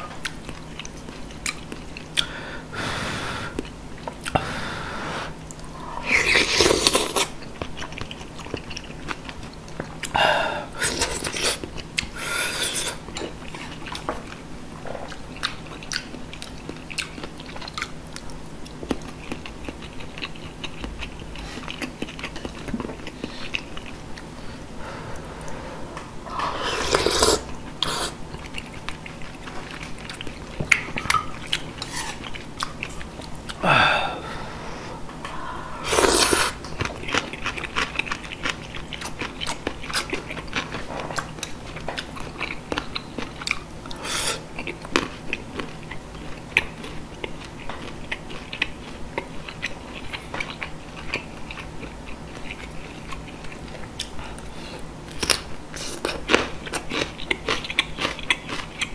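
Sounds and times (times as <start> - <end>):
chewing with wet mouth smacks: 0.1 - 2.3, 5.4 - 10.2, 10.8 - 33.6, 36.0 - 58.9.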